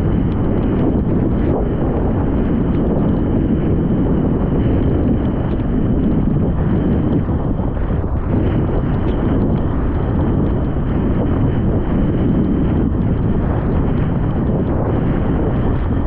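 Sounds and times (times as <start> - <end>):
board skimming over choppy water: 0.0 - 16.0
wind buffeting microphone: 0.0 - 16.0.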